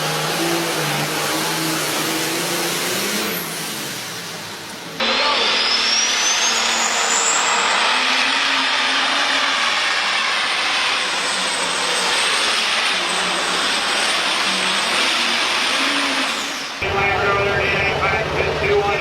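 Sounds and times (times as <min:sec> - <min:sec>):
tractor engine roaring: 0:00.0 - 0:19.0.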